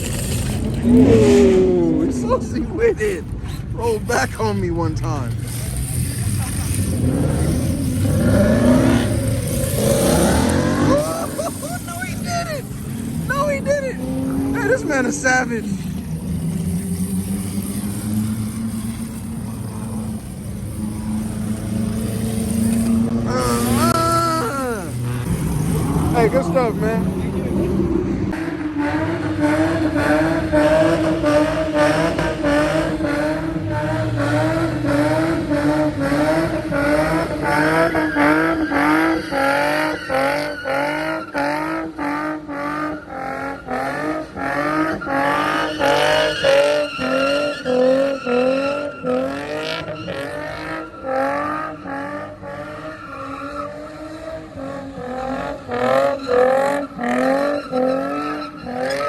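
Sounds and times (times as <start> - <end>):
car engine revving in pulses: 0.0 - 3.4, 4.2 - 59.0
tyres squealing and skidding: 0.0 - 59.0.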